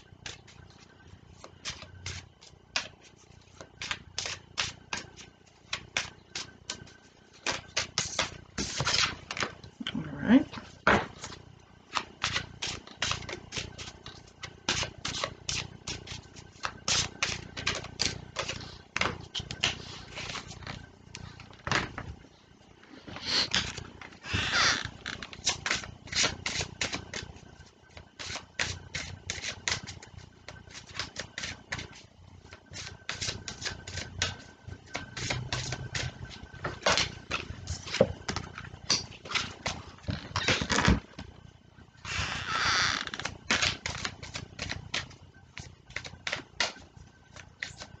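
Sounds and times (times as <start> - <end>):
cards shuffled by hand: 1.4 - 9.6, 11.1 - 21.5, 23.3 - 30.1, 30.7 - 32.1, 32.7 - 41.0, 42.0 - 48.0.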